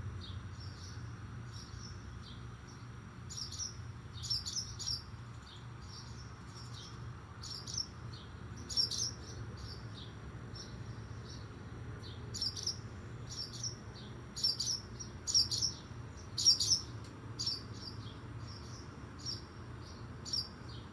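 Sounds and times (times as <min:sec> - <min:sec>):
steady low hum: 0:00.0 - 0:20.9
small birds chirping: 0:00.2 - 0:20.9.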